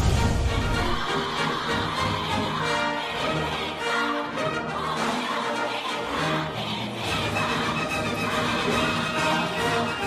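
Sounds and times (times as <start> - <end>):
orchestral music with strings: 0.0 - 10.0.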